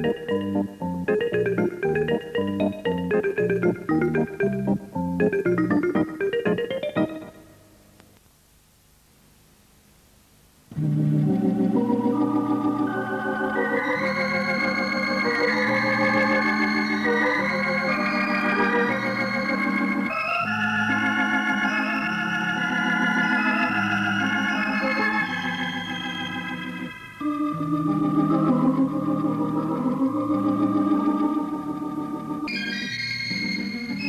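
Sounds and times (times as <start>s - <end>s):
electric organ chords: 0.0s - 7.8s, 10.7s - 34.0s.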